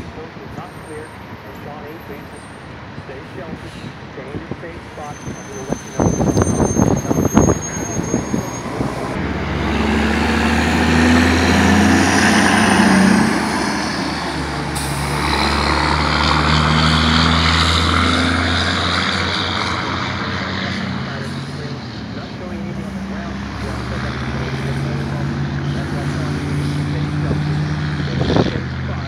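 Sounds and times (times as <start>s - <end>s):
vehicle engine drone: 0.0s - 29.0s.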